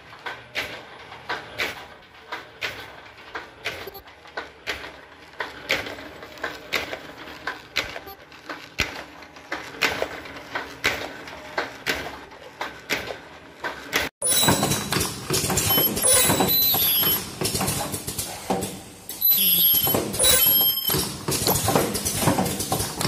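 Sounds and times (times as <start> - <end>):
machine clacking: 0.0 - 23.0.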